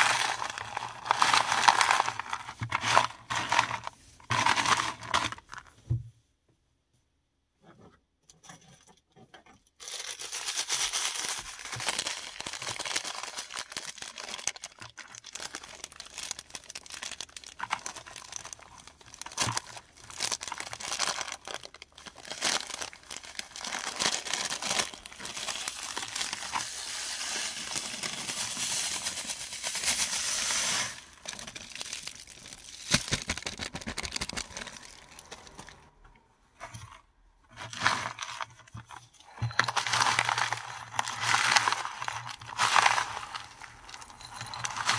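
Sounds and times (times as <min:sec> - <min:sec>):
mothballs crushed by hand: 0:00.0 - 0:05.6, 0:09.9 - 0:35.8, 0:39.6 - 0:44.9.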